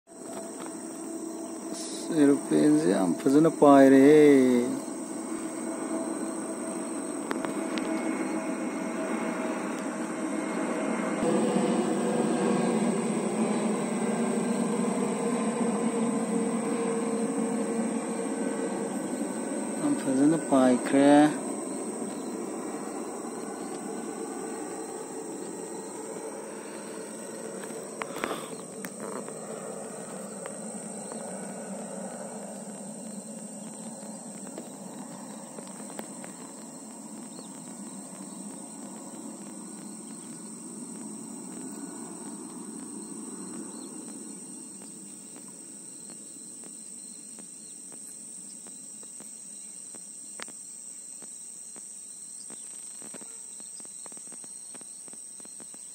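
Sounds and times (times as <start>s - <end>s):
jet airliner rumbling overhead: 0.1s - 48.0s
insects trilling: 0.1s - 55.9s.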